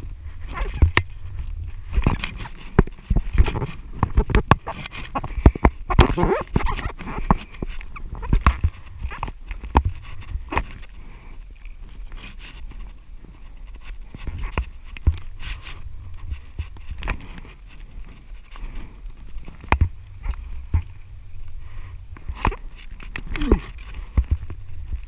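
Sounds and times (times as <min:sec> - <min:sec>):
footsteps and hands on rock: 0:00.0 - 0:25.0
wind rumble on microphone: 0:00.0 - 0:25.0.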